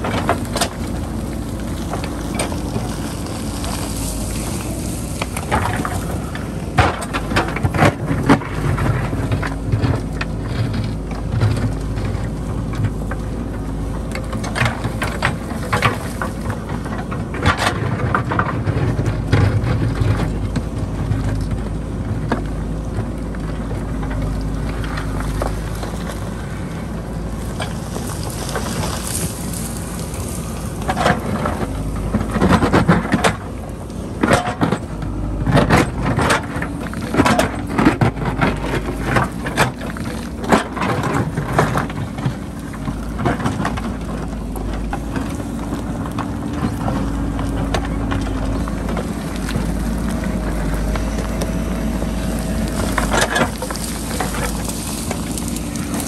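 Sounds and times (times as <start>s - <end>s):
digging bucket scraping rocky ground: 0.0s - 13.6s, 23.0s - 56.0s
diesel engine running: 0.0s - 56.0s.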